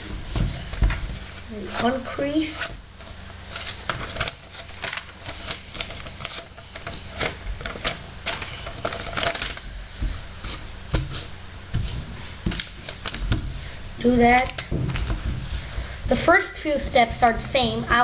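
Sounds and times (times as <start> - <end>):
paper crinkling and rustling: 0.0 - 16.3
low steady hum: 0.0 - 18.0.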